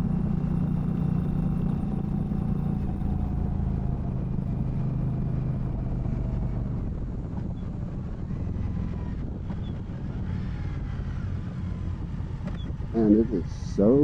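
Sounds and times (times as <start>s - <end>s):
muffled motorcycle engine running: 0.0s - 14.0s
wind noise: 0.0s - 14.0s.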